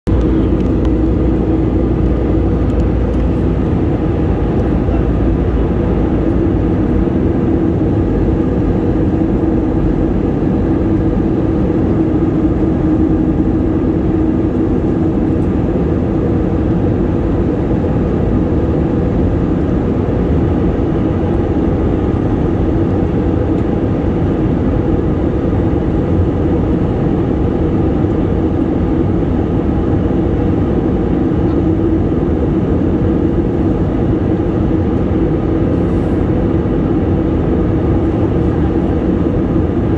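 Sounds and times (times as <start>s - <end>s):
airplane engines droning: 0.0s - 39.9s.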